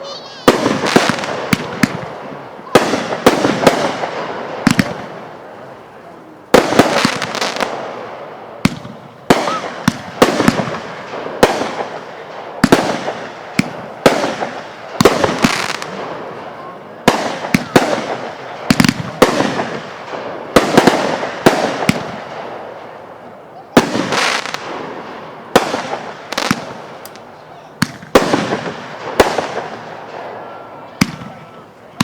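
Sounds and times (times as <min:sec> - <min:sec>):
firework bangs: 0:00.0 - 0:32.0
firework crackling: 0:00.0 - 0:32.0
rumble of fireworks: 0:00.0 - 0:32.0.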